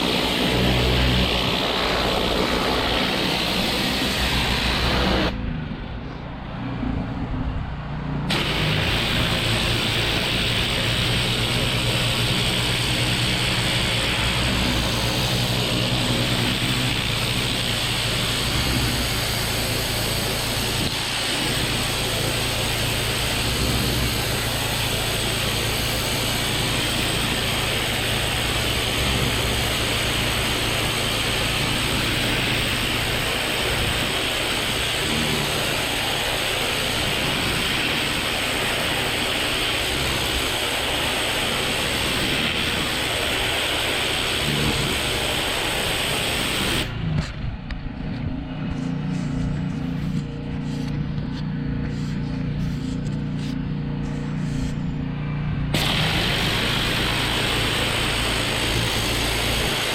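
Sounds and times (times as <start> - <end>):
high-pressure water jet hissing: 0.0 - 5.4, 8.3 - 47.2, 51.8 - 54.9, 55.7 - 59.9
pressure washer motor droning: 0.0 - 5.5, 8.1 - 59.9.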